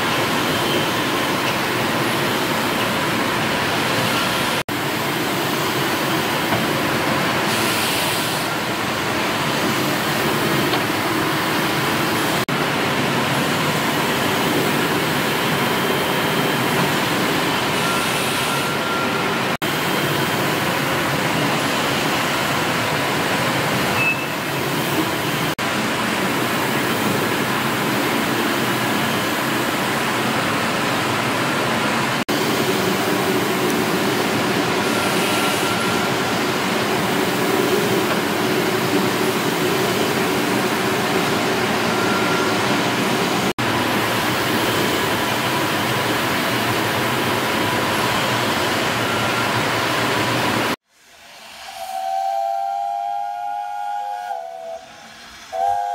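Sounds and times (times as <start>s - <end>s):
steam engine hiss and rumble: 0.0s - 55.9s.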